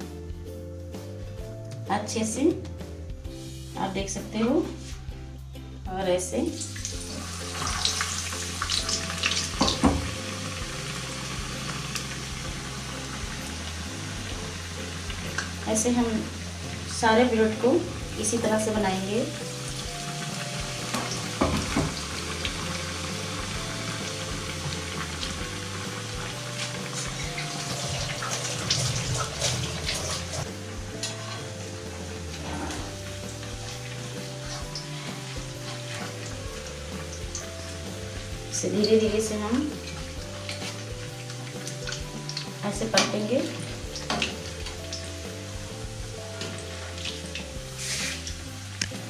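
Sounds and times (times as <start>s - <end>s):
batter deep-frying in oil: 6.6s - 49.0s.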